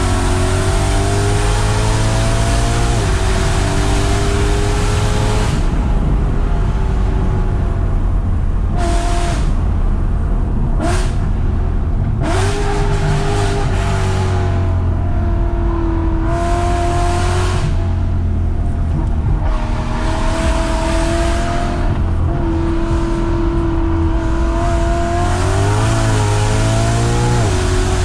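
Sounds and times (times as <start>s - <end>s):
car engine with loud exhaust: 0.0s - 28.0s.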